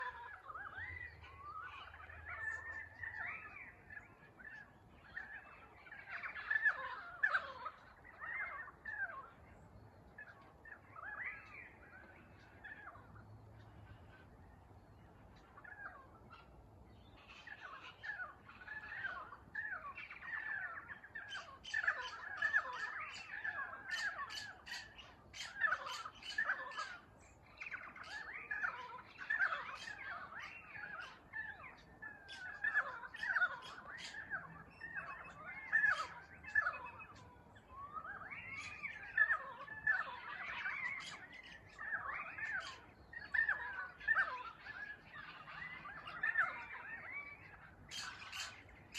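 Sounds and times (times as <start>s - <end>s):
birds calling and squawking: 0.0s - 48.9s.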